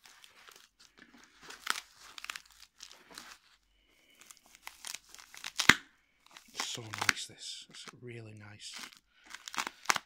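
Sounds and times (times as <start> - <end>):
bubble wrap and tape crinkling: 0.0 - 10.0.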